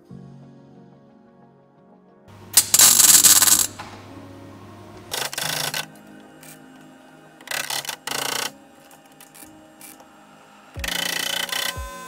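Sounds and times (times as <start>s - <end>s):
quiet background music: 0.0s - 12.0s
welder crackling: 2.3s - 12.0s.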